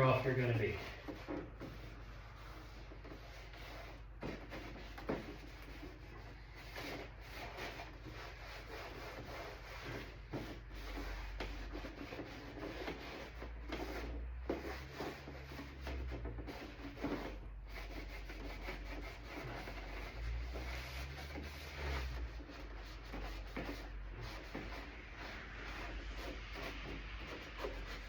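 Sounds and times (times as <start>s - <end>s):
rag scrubbing plastic panel: 0.0s - 28.0s.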